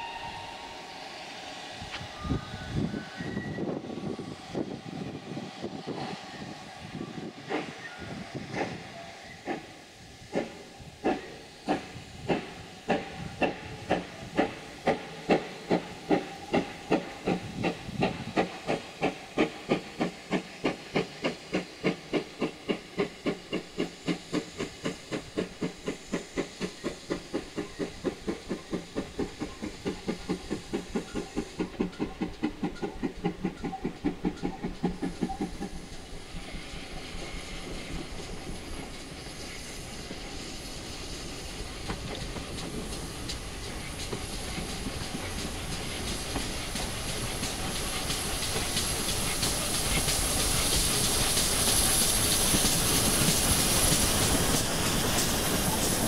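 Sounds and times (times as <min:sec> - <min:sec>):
steady hiss of steam: 0:00.0 - 0:56.0
steam locomotive exhaust beats: 0:00.0 - 0:56.0.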